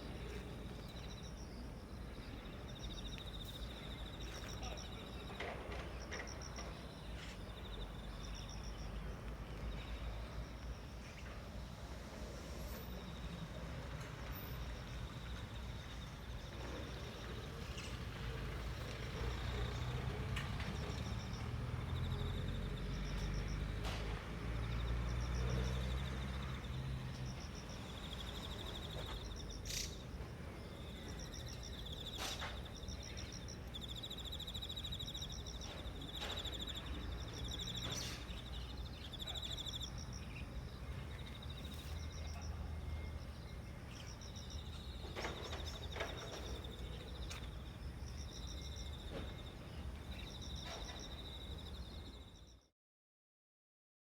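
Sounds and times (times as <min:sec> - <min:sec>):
distant traffic rumble: 0:00.0 - 0:52.6
insects trilling: 0:00.0 - 0:52.6.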